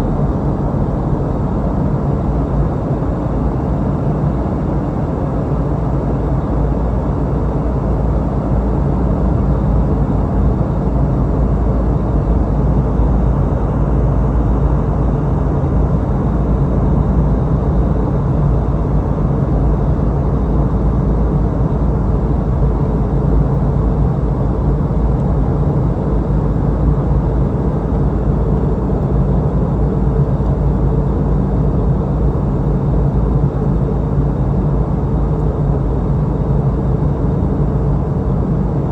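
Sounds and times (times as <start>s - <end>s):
airflow rushing in cabin: 0.0s - 38.9s
jet engines droning: 0.0s - 38.9s
steady low hum: 0.0s - 38.9s.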